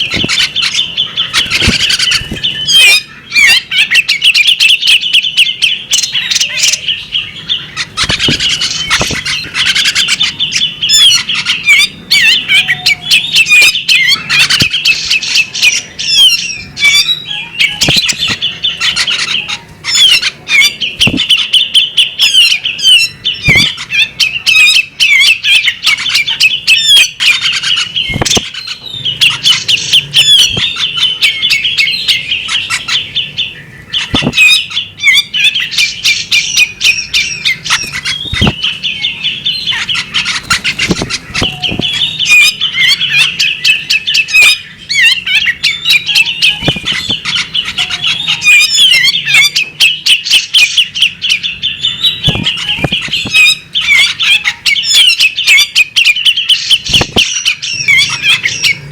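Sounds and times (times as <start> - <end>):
bird chirping and twittering: 0.0 - 58.9.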